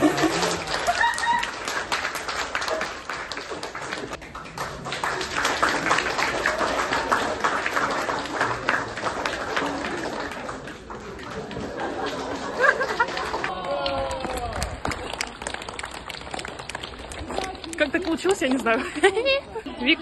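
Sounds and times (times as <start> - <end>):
people applauding: 0.0 - 19.3.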